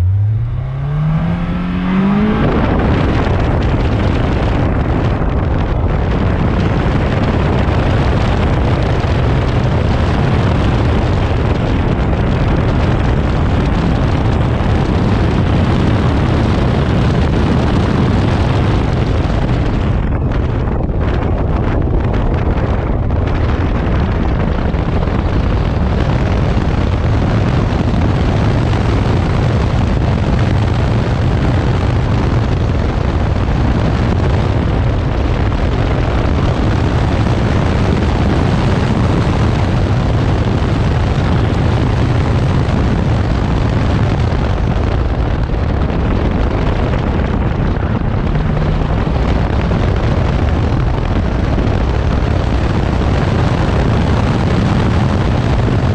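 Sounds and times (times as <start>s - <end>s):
car engine under hard driving: 0.0s - 55.9s
wind buffeting on microphone: 0.0s - 55.9s.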